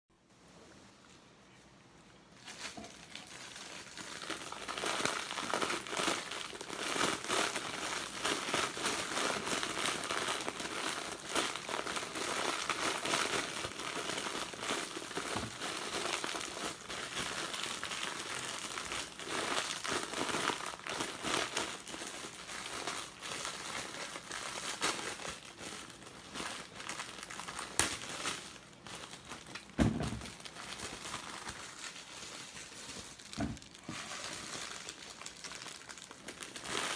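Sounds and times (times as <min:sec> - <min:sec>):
crinkling and crackling: 0:00.3 - 0:36.9.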